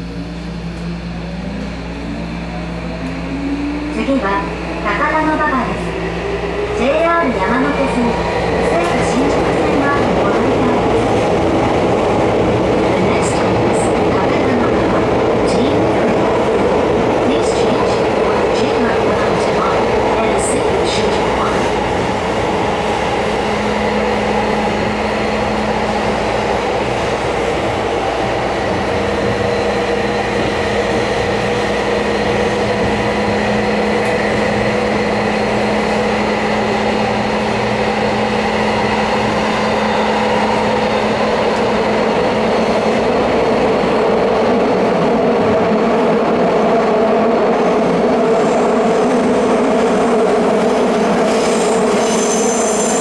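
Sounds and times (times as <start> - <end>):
subway train rumble: 0.0 - 53.0.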